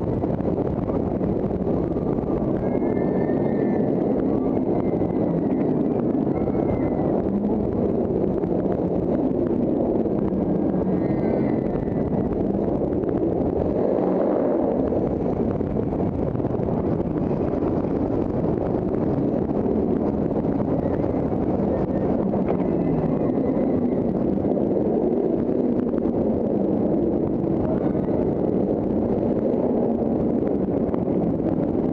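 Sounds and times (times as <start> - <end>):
roller coaster rumbling on track: 0.0 - 31.9
wind blasting microphone: 0.0 - 31.9.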